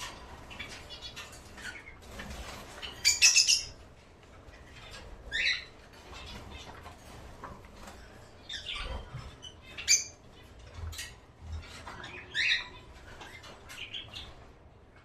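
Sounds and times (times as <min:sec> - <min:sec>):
birds chirping and squawking: 0:00.0 - 0:15.0.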